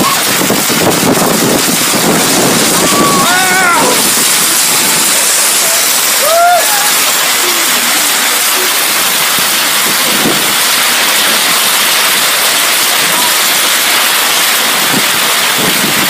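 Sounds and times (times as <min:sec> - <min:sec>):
heavy rain downpour: 0:00.0 - 0:16.0.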